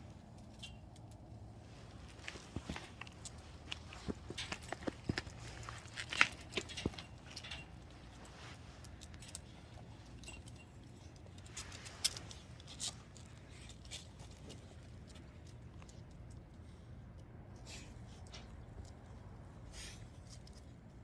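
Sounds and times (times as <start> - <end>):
dogs playing with sharp clicks: 0.0 - 21.0.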